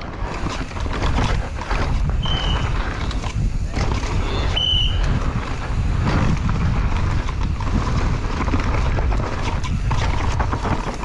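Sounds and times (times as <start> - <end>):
bike rattling: 0.0 - 11.0
bike tyre noise on dirt: 0.0 - 11.0
wind buffeting microphone: 0.0 - 11.0.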